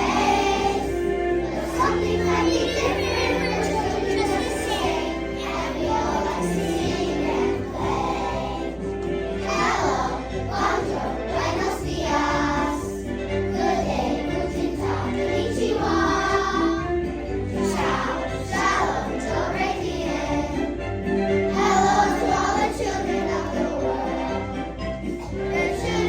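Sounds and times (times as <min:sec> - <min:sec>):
children's choir singing: 0:00.0 - 0:26.0
musical accompaniment: 0:00.0 - 0:26.0.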